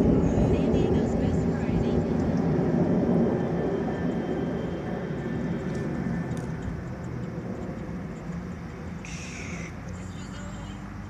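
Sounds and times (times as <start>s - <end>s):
jet engines flying overhead: 0.0s - 11.0s.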